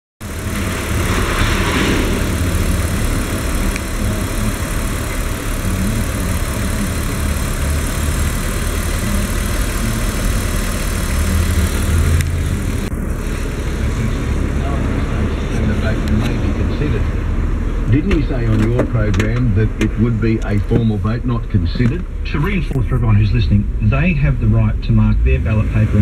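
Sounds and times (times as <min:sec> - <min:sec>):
car engine idling: 0:00.2 - 0:26.0.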